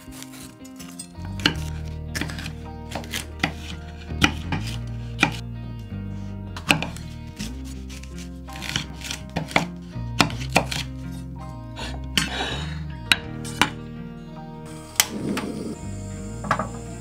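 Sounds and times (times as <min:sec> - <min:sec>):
background music with bass: 0:00.0 - 0:17.0.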